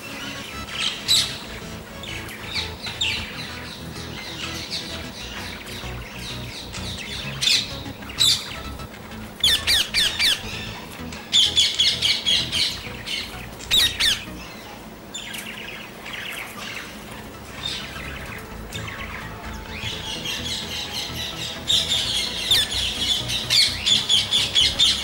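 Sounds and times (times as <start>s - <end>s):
parrots squawking: 0.0s - 25.0s.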